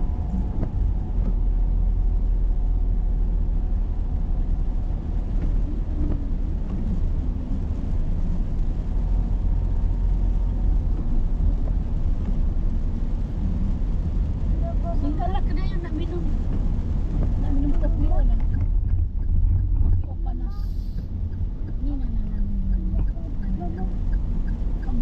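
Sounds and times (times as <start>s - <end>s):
car rumbling on the move: 0.0s - 25.0s.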